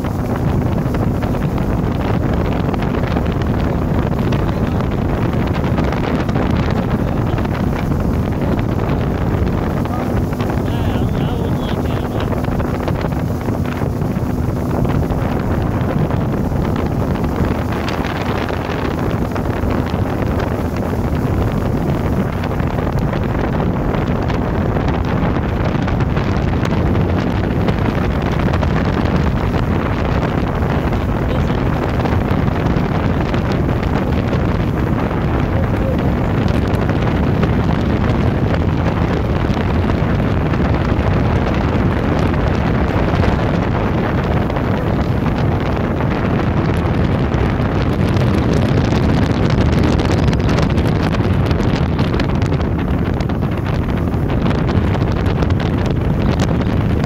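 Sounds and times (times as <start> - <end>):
boat motor running: 0.0 - 57.0
wind buffeting microphone: 0.0 - 57.0.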